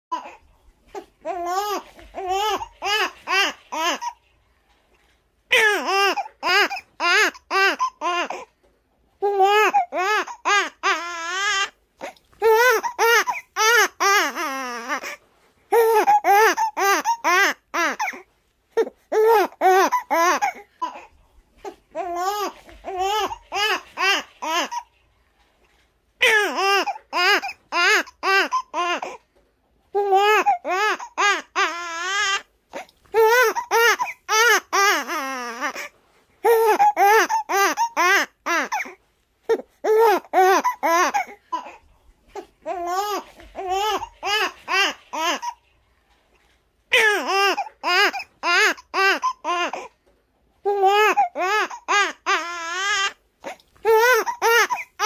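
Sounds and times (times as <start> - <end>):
baby crying: 1.0 - 4.2, 5.5 - 8.5, 9.2 - 21.1, 21.7 - 24.9, 26.2 - 29.2, 30.0 - 41.8, 42.4 - 45.6, 46.9 - 50.0, 50.6 - 55.0.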